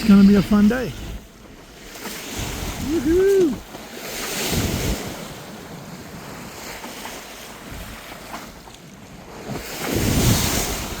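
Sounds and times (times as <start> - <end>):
water rushing past boat hull: 0.0 - 11.0
wind buffeting microphone: 0.0 - 11.0.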